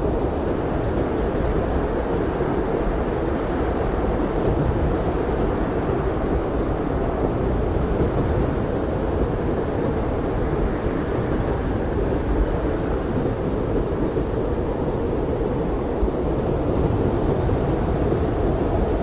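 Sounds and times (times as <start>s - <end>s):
blizzard wind rumbling: 0.0s - 19.0s.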